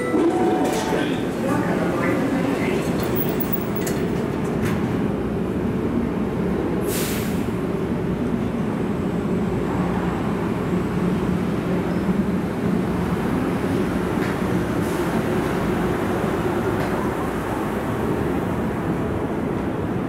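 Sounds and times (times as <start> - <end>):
train rumble with motor hum: 0.3 - 20.0.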